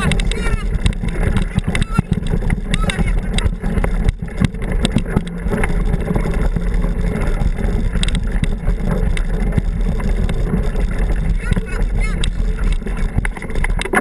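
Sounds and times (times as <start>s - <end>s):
bike knocks and rattles: 0.0s - 14.0s
bike tyres rumbling on dirt: 0.0s - 14.0s.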